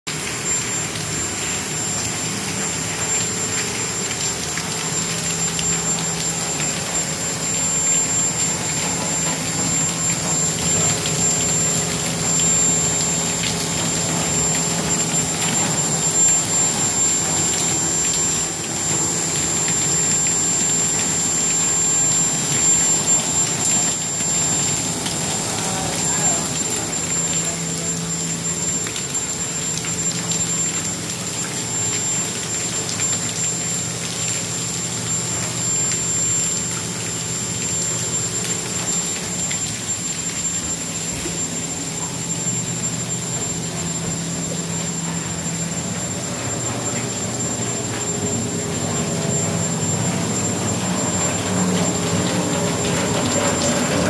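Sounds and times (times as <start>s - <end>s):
high-pitched whine: 0.1s - 54.0s
rain on a metal roof: 0.1s - 54.0s.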